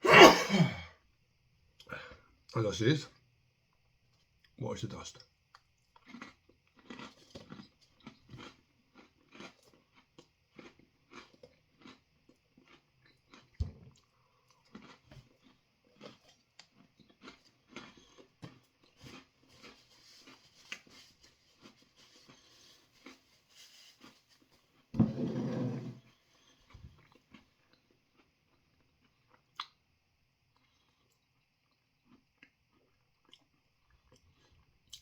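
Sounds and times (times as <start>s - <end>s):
chewing crunchy food: 4.2s - 24.9s, 26.1s - 35.0s.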